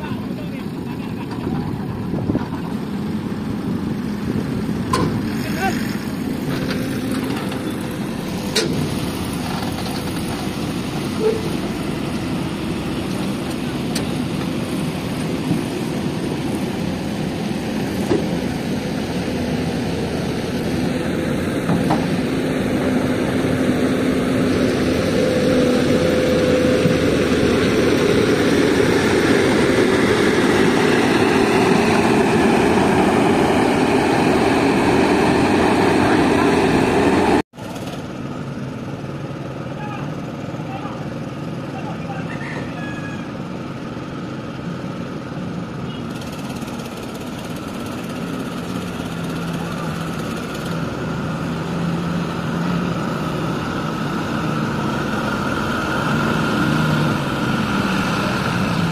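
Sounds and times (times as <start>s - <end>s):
heavy diesel engines running: 0.0s - 58.9s.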